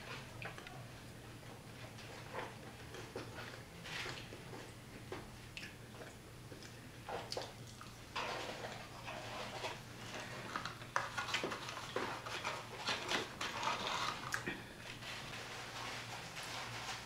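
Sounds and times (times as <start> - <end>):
chewing and handling food: 0.0 - 17.0.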